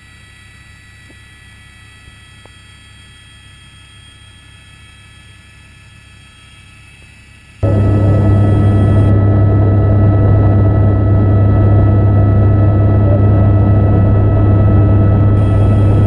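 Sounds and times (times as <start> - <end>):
helicopter drone from inside cabin: 0.0 - 16.0.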